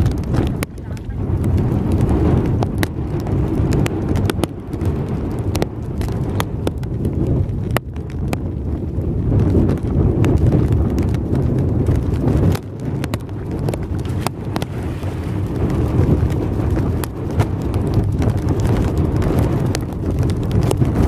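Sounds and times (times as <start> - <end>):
rain ticks: 0.0 - 21.0
wind buffeting microphone: 0.0 - 21.0.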